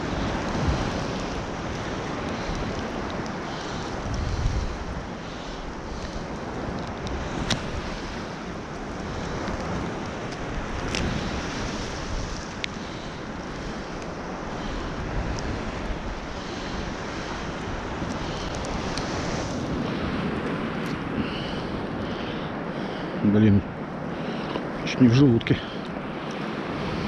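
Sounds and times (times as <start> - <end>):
surf washing against shore: 0.0 - 27.0
wind buffeting microphone: 0.0 - 27.0.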